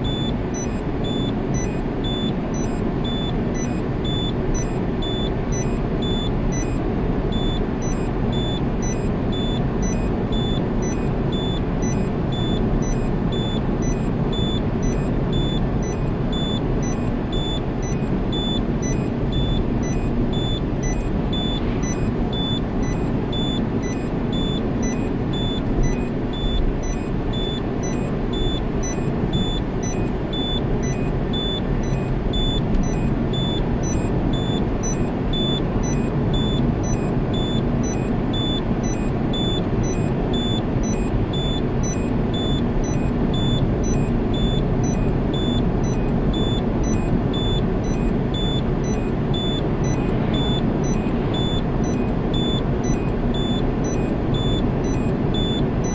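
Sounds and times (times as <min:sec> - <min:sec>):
seat-belt warning chime beeping: 0:00.0 - 0:55.9.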